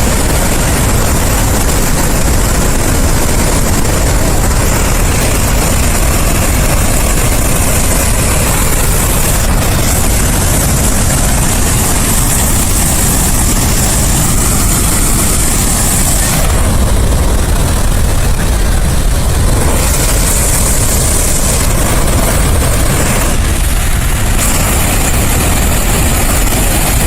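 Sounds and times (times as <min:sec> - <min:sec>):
floodwater gushing from dam outlet: 0:00.0 - 0:27.0.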